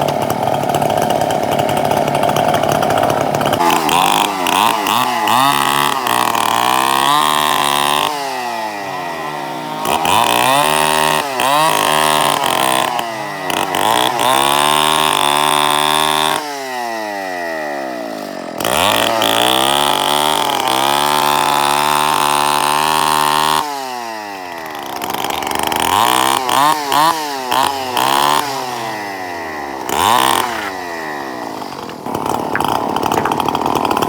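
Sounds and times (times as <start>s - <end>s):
chainsaw engine revving: 0.0s - 34.0s.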